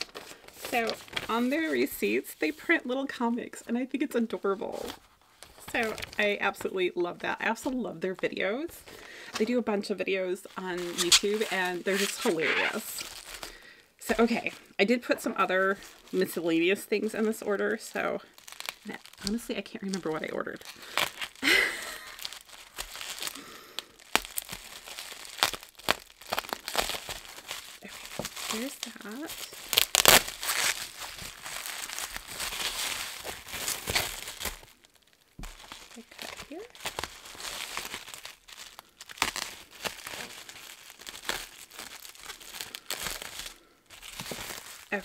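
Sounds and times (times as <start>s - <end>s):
bubble wrap crinkling: 0.0s - 45.0s.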